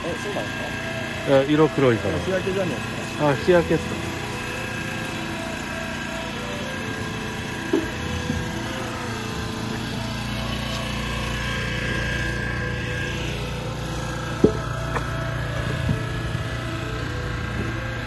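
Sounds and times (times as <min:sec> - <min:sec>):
small engine running steadily: 0:00.0 - 0:18.0.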